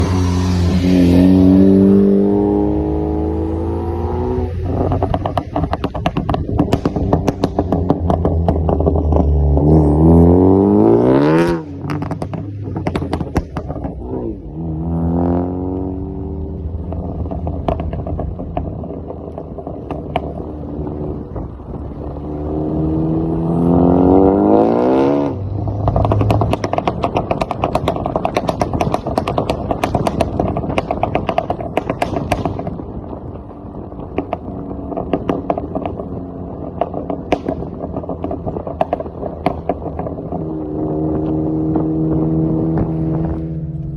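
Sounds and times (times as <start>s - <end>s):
car engine revving: 0.0s - 43.9s
exhaust crackles and pops: 0.0s - 43.9s.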